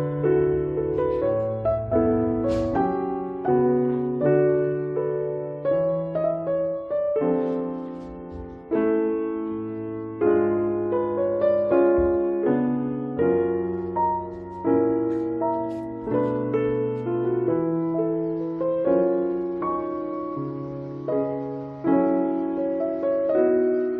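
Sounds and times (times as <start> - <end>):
gentle piano melody: 0.0 - 23.9.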